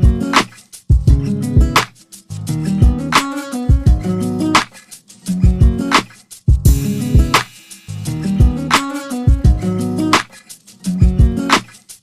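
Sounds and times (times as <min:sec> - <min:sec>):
drum rhythm: 0:00.0 - 0:12.0
plucked guitar: 0:00.0 - 0:12.0.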